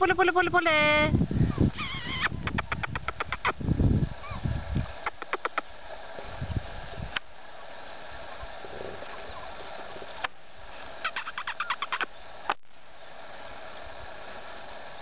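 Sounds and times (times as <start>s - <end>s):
birds singing faintly: 1.4s - 14.2s.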